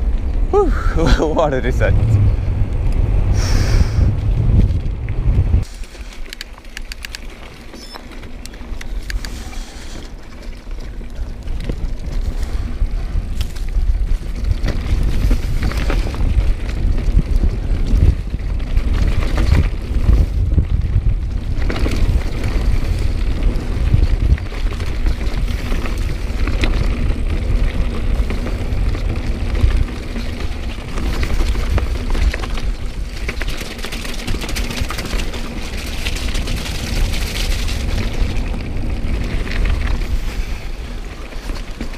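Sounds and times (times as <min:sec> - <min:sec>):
wind rumble on microphone: 0:00.0 - 0:05.9, 0:08.5 - 0:41.9
bike rattling over rocks: 0:04.0 - 0:41.9.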